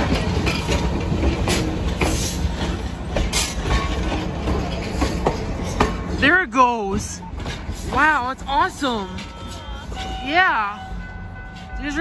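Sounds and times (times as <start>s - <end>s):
train wheels rumbling on rail: 0.0s - 12.0s
wheels clicking over rail joints: 0.0s - 12.0s.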